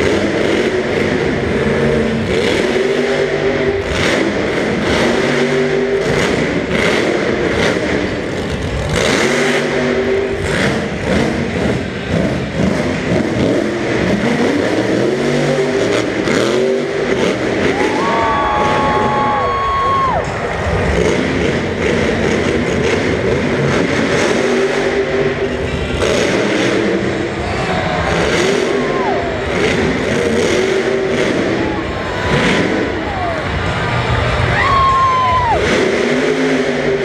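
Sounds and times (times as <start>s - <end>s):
monster truck engine revving: 0.0s - 37.0s.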